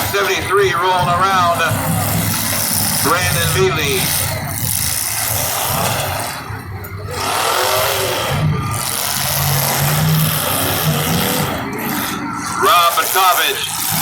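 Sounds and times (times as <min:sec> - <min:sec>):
car engines revving hard: 0:00.0 - 0:14.0.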